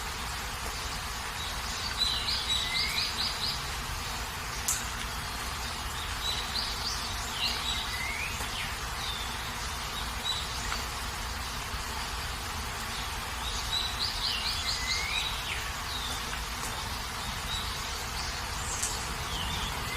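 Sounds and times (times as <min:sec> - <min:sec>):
steady rain hiss: 0:00.0 - 0:19.9
bird chirping: 0:00.7 - 0:03.8, 0:04.5 - 0:10.9, 0:12.9 - 0:19.9.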